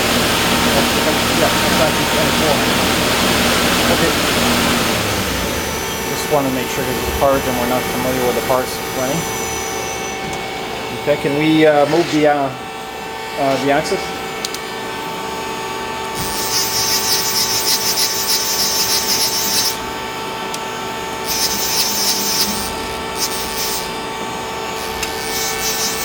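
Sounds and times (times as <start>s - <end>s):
lathe humming: 0.0s - 26.0s.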